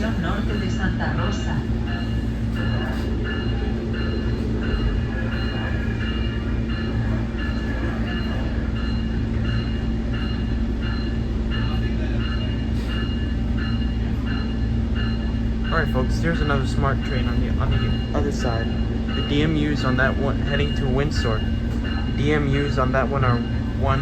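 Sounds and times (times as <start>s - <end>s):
diesel train rumbling: 0.0s - 24.0s.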